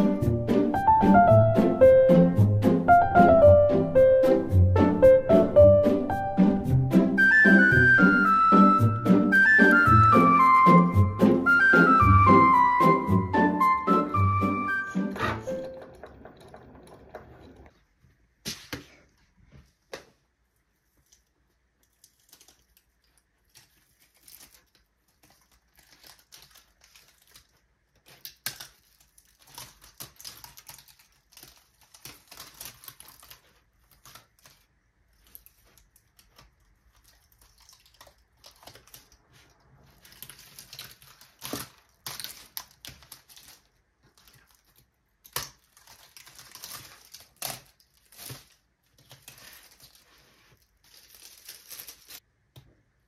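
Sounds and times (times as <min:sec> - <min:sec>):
vinyl crackling as peeled: 0:06.1 - 0:17.7, 0:20.5 - 0:52.3.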